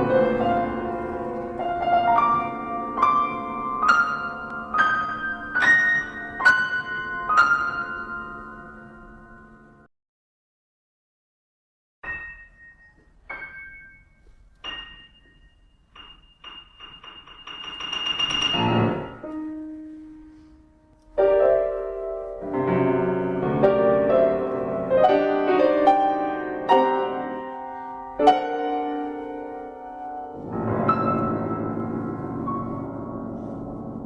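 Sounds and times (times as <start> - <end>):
piano ringing chords: 0.0 - 9.9, 12.0 - 34.0.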